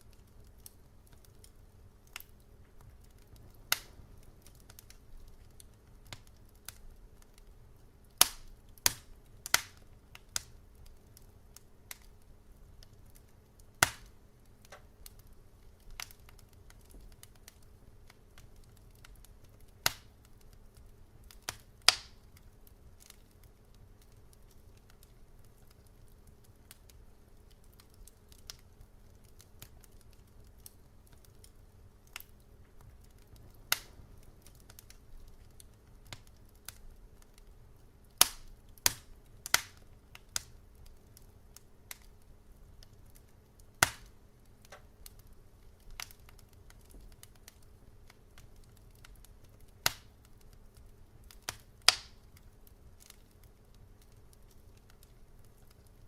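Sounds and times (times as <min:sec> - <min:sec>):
faint low hum: 0:00.0 - 0:56.0
wood fire crackling: 0:00.0 - 0:56.0.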